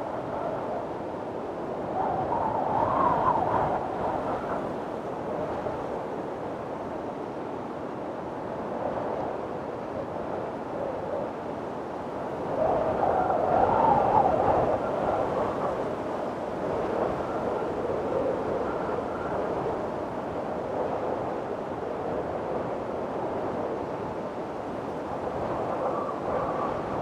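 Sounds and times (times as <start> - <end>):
strong wind blowing: 0.0 - 27.0.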